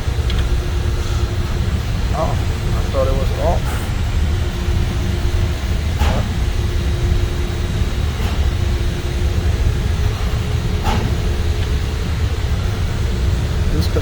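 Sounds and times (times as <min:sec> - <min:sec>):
faint hum: 0:00.0 - 0:14.0
machinery rumbling: 0:00.0 - 0:14.0.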